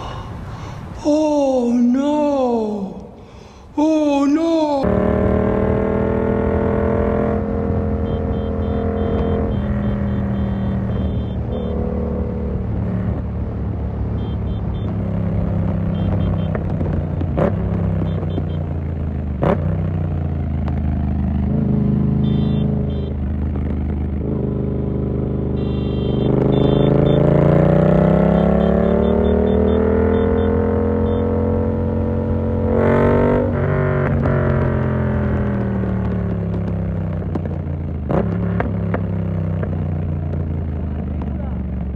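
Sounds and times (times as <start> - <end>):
motorcycle engine revving: 4.8 - 41.9.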